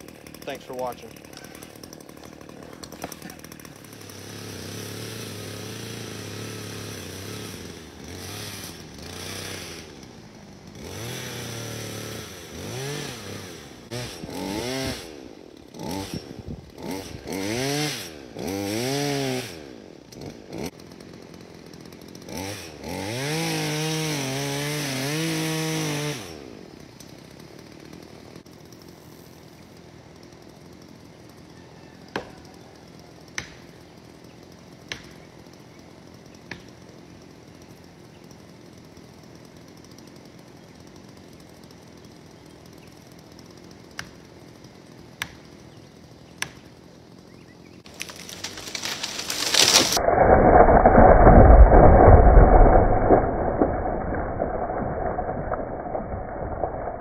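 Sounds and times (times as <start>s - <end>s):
chainsaw cutting and revving: 0.0s - 57.0s.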